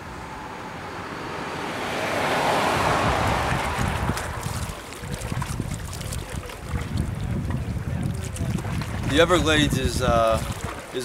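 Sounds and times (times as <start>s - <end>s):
rush of wind-like noise: 0.0s - 11.0s.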